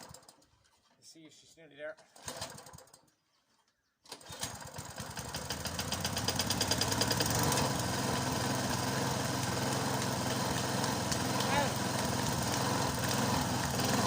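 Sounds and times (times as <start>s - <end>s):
lawn mower engine starting: 0.0s - 1.0s, 2.0s - 14.0s.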